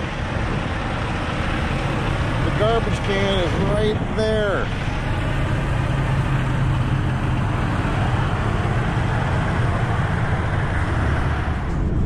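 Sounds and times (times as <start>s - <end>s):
tyre and road noise: 0.0s - 12.0s
vehicle engine hum: 0.0s - 12.0s.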